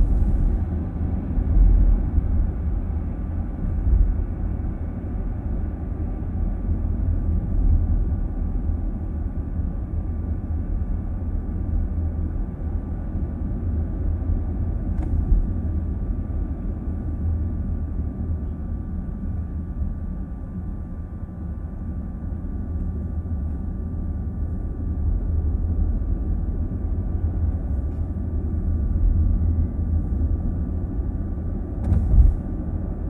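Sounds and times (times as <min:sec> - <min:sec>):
car cabin road rumble: 0:00.0 - 0:33.0.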